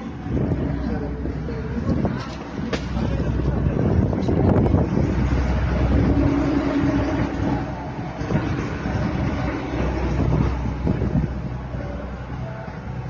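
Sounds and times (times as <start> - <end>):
boat engine rumbling: 0.0 - 13.0
water wash: 0.0 - 13.0
wind noise: 0.0 - 13.0.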